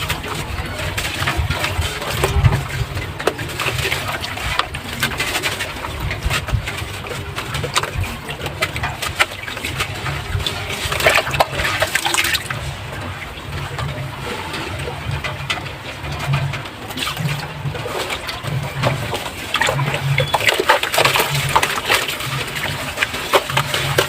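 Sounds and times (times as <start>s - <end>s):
water trickling: 0.0s - 24.0s
wet crackles of crumbling cement: 0.0s - 24.0s.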